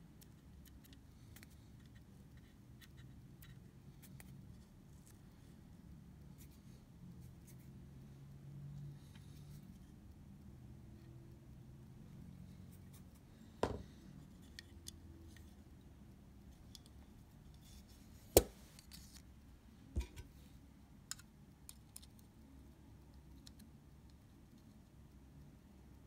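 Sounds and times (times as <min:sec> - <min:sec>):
faint low room hum: 0:00.0 - 0:26.0.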